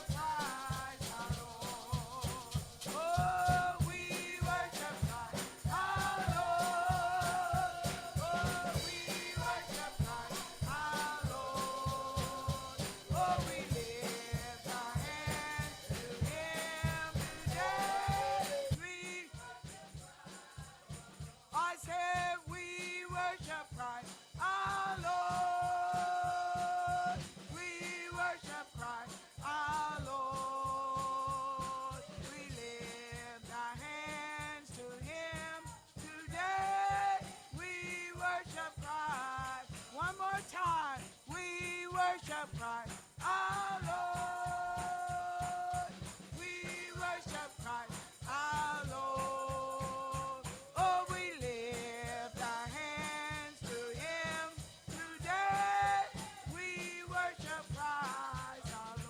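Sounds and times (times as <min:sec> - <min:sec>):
steady drum beat: 0:00.0 - 0:59.0.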